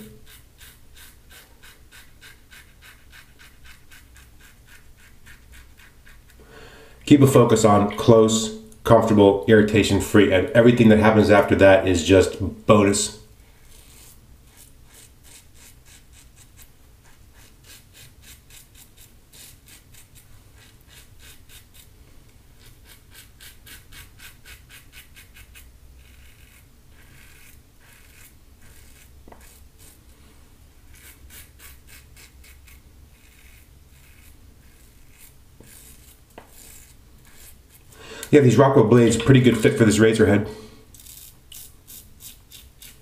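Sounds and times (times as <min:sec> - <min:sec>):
razor scraping stubble: 0:00.0 - 0:06.4, 0:12.8 - 0:21.9, 0:22.6 - 0:30.1, 0:30.9 - 0:43.0.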